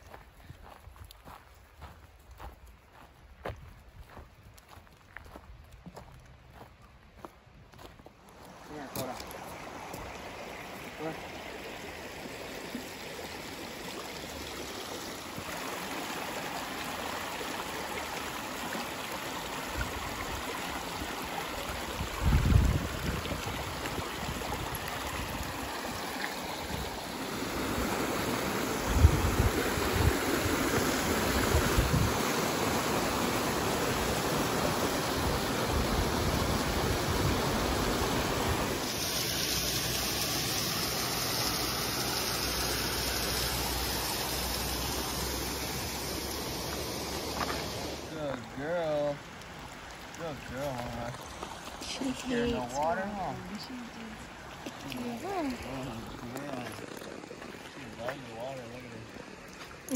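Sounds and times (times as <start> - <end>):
creek water rushing over rocks: 8.1 - 59.9.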